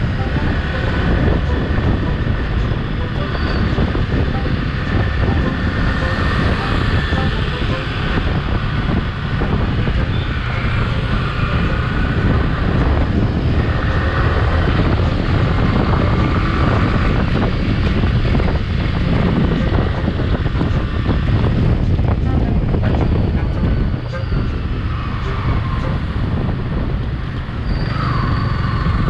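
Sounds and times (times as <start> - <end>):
motorcycle engine running: 0.0 - 27.6
wind noise on microphone: 0.0 - 29.0.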